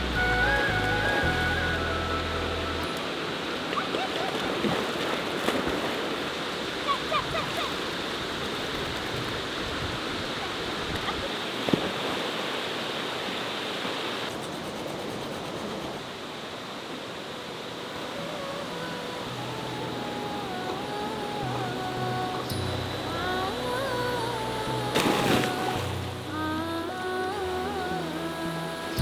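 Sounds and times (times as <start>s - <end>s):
water rushing: 0.0s - 14.3s, 16.0s - 29.0s.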